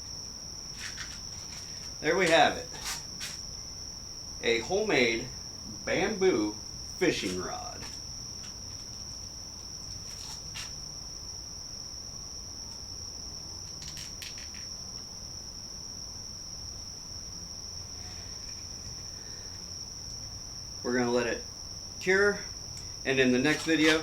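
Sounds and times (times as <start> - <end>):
shrill insect chorus: 0.0 - 24.0.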